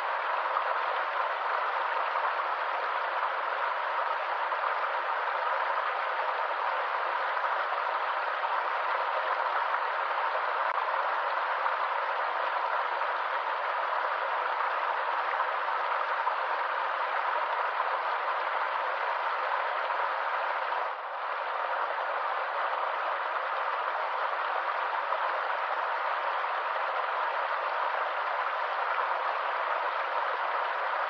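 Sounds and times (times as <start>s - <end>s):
stream water over rocks: 0.0s - 31.0s.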